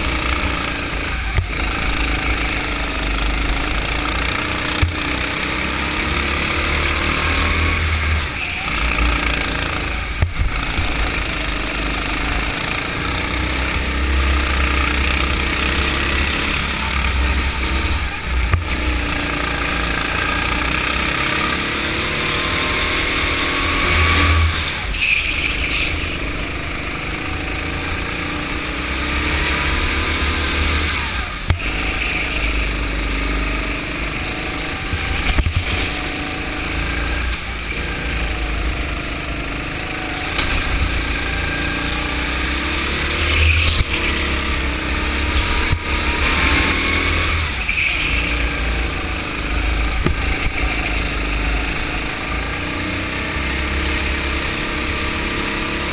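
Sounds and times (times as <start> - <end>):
go-kart engine running: 0.0 - 55.9.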